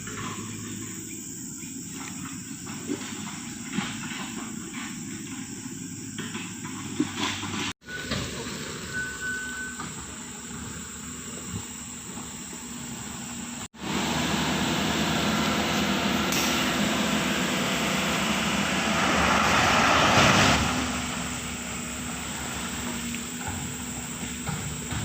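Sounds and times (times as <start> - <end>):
diesel road machinery running: 0.0 - 25.0.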